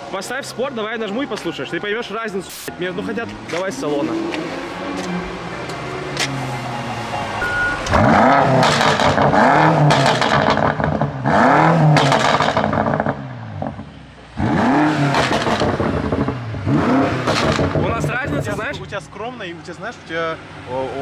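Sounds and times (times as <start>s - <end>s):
car engine revving: 2.7s - 21.0s.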